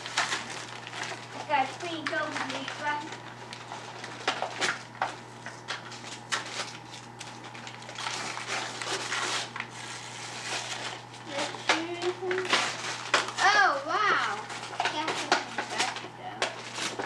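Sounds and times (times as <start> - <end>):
package rustling and crinkling: 0.0 - 17.0.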